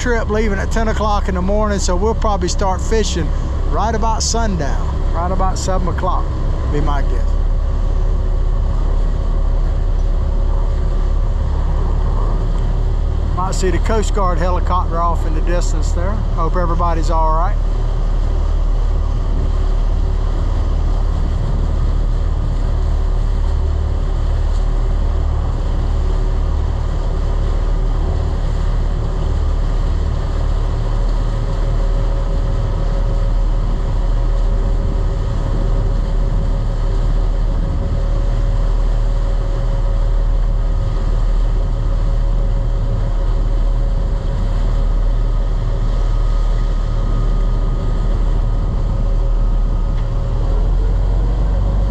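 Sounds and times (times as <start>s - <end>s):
boat engines rumbling: 0.0s - 51.9s
water rushing past hull: 0.0s - 51.9s.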